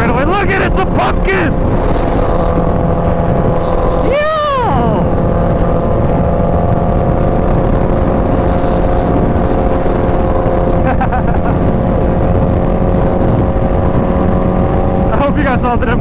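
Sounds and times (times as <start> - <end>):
motorcycle engine cruising: 0.0 - 16.0
wind rushing: 0.0 - 16.0.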